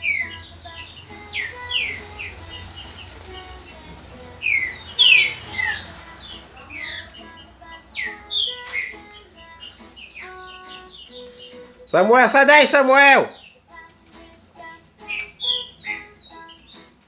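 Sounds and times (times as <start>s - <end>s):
bird singing whistled notes: 0.0s - 13.6s, 14.4s - 16.9s.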